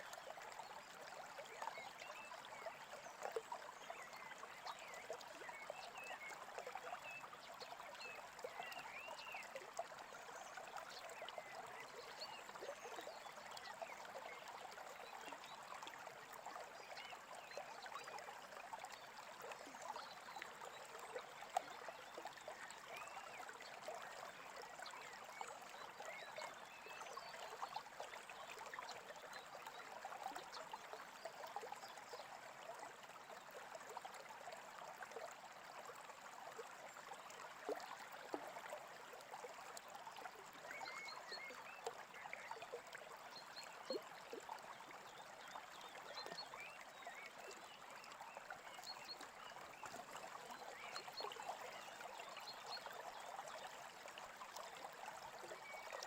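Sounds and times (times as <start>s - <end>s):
faint brook babbling: 0.0s - 56.0s.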